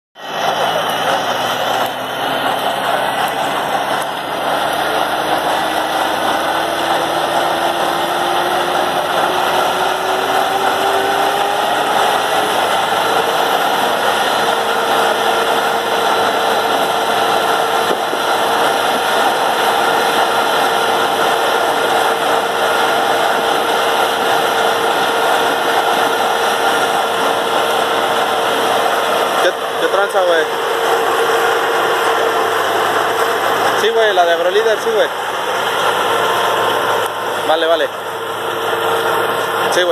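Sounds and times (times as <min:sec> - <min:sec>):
tractor engine running: 0:00.2 - 0:39.9
whine climbing in pitch: 0:00.2 - 0:39.9.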